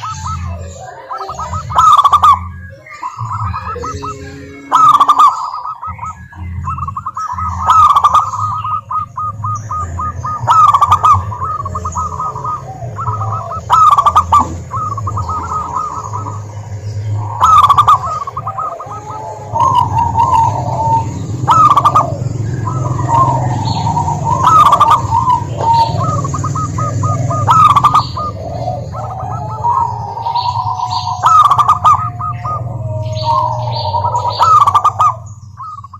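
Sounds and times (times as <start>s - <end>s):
doves cooing: 0.0s - 35.9s.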